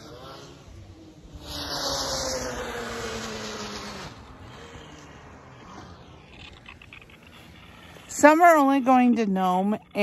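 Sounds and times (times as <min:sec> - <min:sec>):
snowmobile engine: 0:00.0 - 0:10.0.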